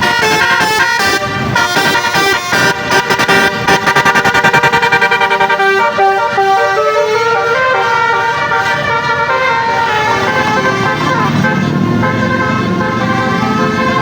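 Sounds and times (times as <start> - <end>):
musical air horn playing melody: 0.0 - 14.0.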